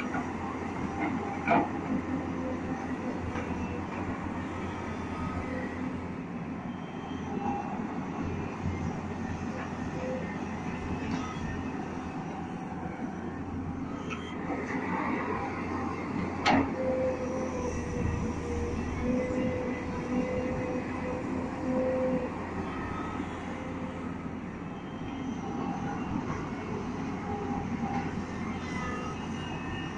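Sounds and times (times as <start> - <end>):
excavator engine rumbling: 0.0 - 29.9.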